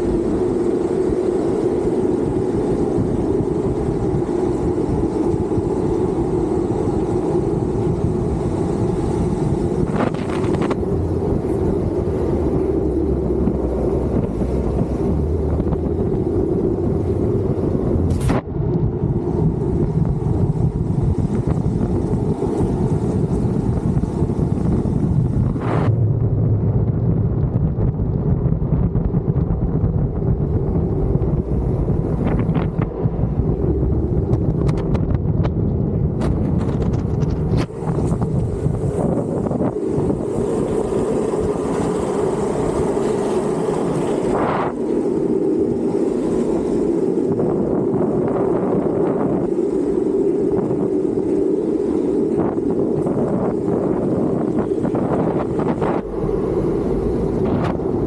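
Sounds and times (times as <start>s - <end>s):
wheels rolling on asphalt: 0.0s - 58.0s
wind over microphone: 0.0s - 58.0s.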